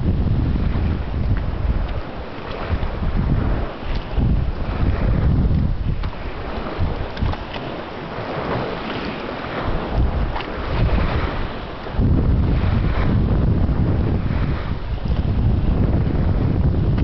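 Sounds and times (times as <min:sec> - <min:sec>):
choppy lake water: 0:00.0 - 0:17.0
wind buffeting microphone: 0:00.0 - 0:17.0.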